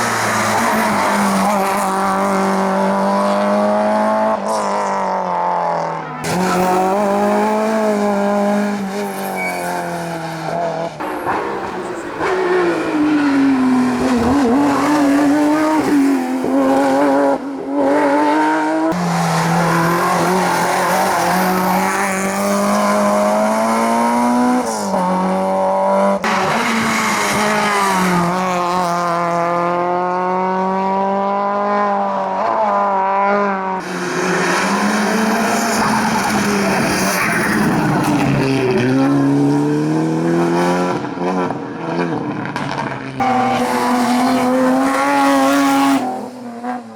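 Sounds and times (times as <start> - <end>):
racing car engines at high revs: 0.0 - 46.9.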